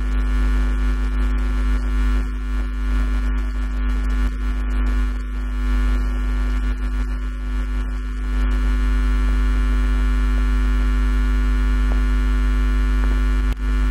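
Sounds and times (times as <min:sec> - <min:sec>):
electrical mains hum: 0:00.0 - 0:13.9.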